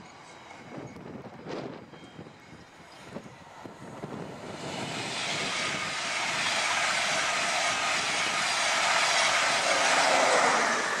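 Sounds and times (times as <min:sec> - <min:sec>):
electric train passing at speed: 0:00.0 - 0:11.0.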